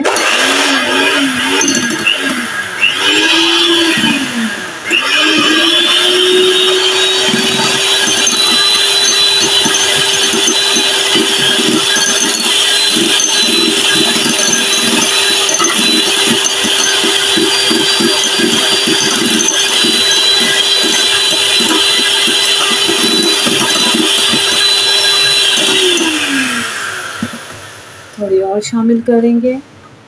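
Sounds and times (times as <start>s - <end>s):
hand mixer motor whine: 0.0s - 28.5s
beaters churning through cream: 0.0s - 28.9s.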